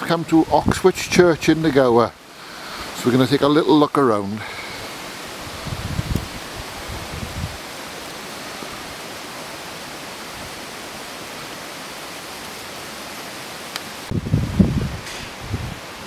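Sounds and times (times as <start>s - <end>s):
wind in trees: 0.0s - 16.0s.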